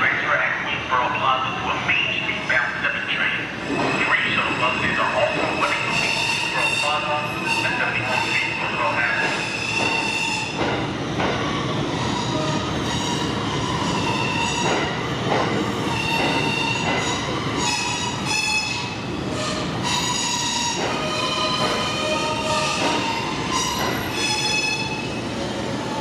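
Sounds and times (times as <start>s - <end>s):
train rumble: 0.0s - 26.0s
train wheels squealing on rails: 0.4s - 26.0s.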